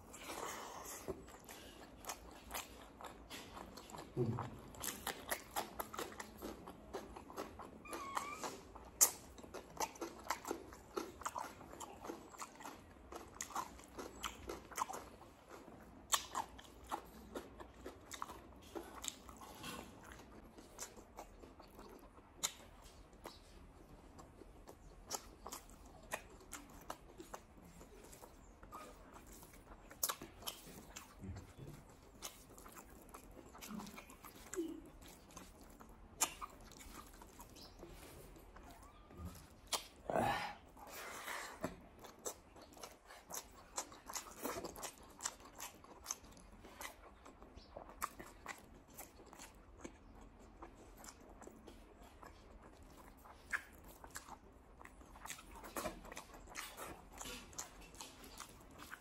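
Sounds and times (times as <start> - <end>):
chewing with wet mouth smacks: 0.0 - 59.0.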